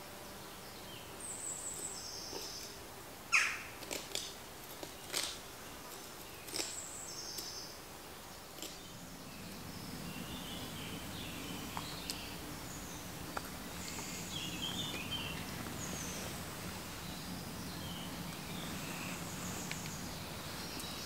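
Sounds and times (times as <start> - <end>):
low steady hum: 0.0 - 21.0
songbirds singing: 0.0 - 21.0.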